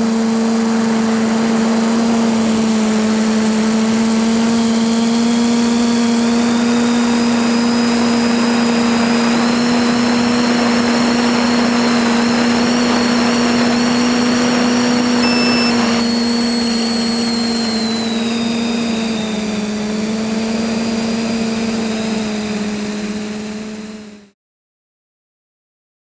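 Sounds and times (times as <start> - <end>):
quadcopter propellers humming: 0.0 - 24.4.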